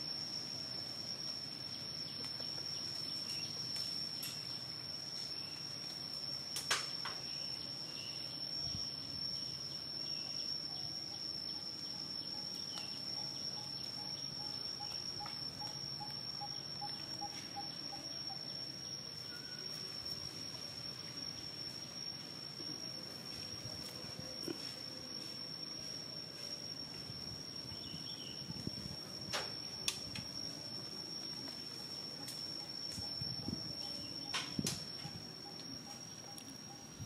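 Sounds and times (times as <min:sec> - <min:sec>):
high-pitched insect drone: 0:00.0 - 0:37.0
low outdoor hum: 0:00.0 - 0:37.0.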